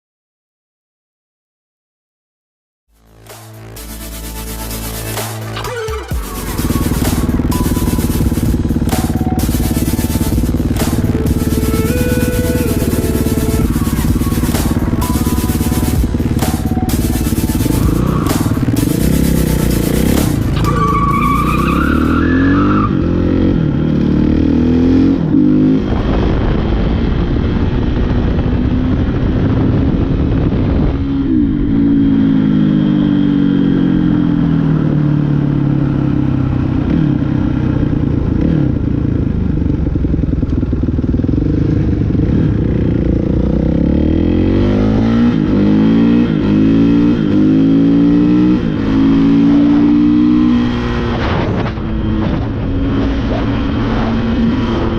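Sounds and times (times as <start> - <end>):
dirt bike engine revving: 3.2 - 26.0, 31.3 - 54.9.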